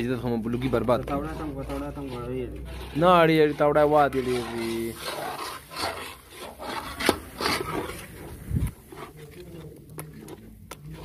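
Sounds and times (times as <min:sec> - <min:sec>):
metal spatula scraping: 0:00.0 - 0:11.0
thick mixture bubbling: 0:00.0 - 0:11.0.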